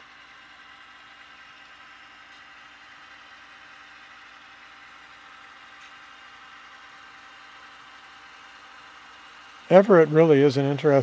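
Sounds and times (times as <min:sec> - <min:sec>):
model locomotive engine drone: 0:00.0 - 0:11.0.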